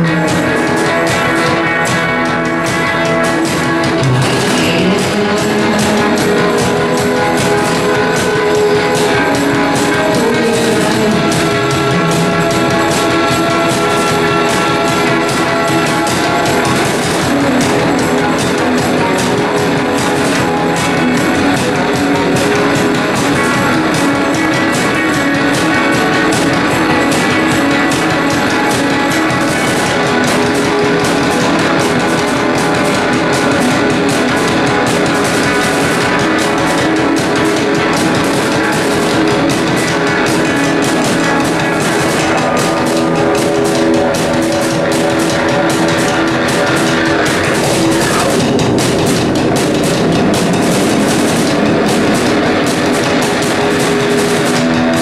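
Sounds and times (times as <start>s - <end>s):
drums beaten with sticks: 0.0s - 55.0s
electric guitar: 0.0s - 55.0s.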